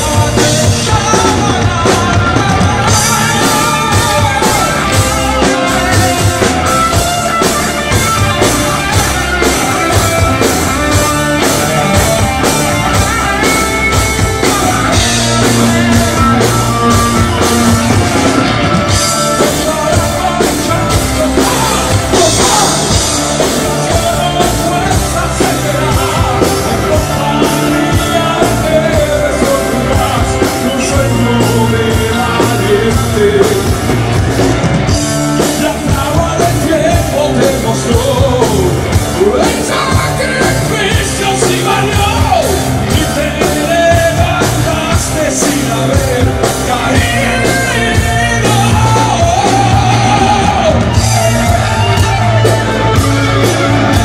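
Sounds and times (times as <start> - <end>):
bass guitar: 0.0 - 54.0
drum kit: 0.0 - 54.0
electric guitar: 0.0 - 54.0
man singing: 0.0 - 54.0.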